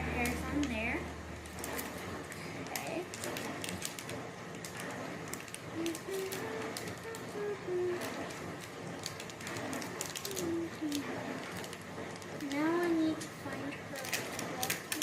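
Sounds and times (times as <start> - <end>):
plastic pieces clicking and rattling: 1.4 - 15.0.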